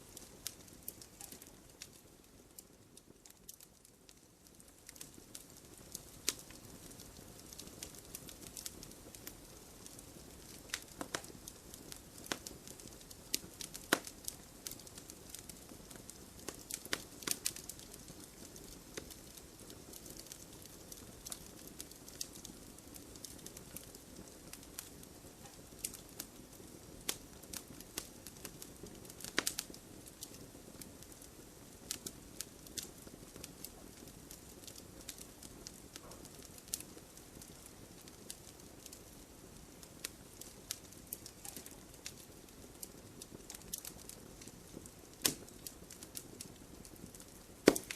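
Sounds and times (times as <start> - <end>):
fire popping and snapping: 0.0 - 47.9
wood fire crackling: 0.0 - 47.9.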